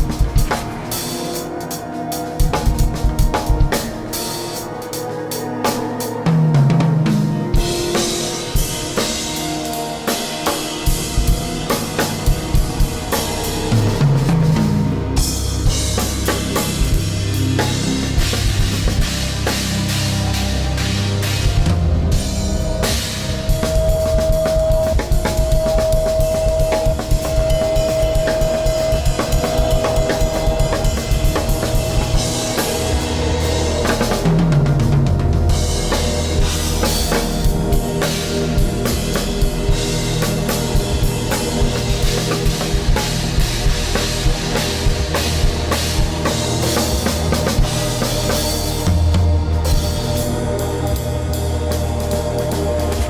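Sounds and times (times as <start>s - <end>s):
drum kit playing: 0.0s - 53.0s
held low notes: 0.0s - 53.0s.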